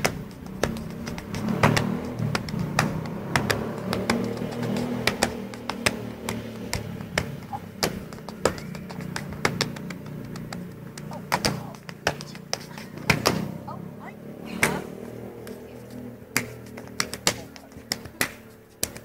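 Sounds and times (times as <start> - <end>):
sneakers tapping on tiled floor: 0.0 - 13.7, 14.6 - 19.0.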